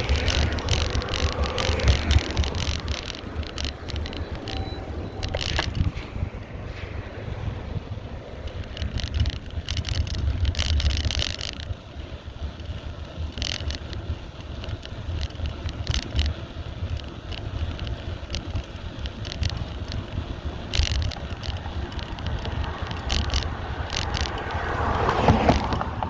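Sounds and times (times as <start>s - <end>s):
wind buffeting microphone: 0.0s - 13.1s, 17.5s - 26.0s
bicycle rattles and clicks: 0.0s - 26.0s.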